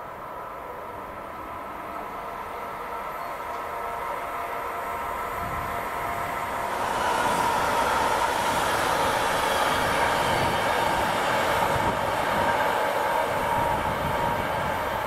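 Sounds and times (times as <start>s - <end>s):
steel wheels rumbling on rail: 0.1s - 15.0s.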